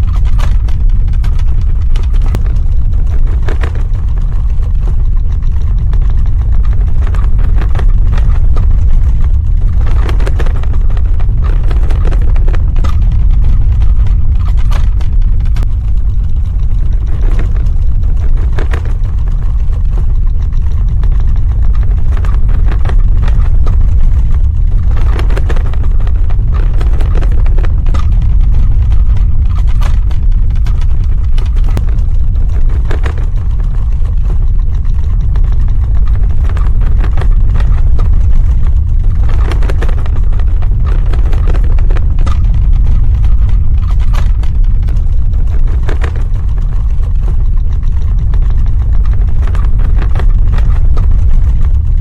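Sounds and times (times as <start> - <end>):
crackles and rattles: 0.0 - 52.0
deep earthquake rumble: 0.0 - 52.0.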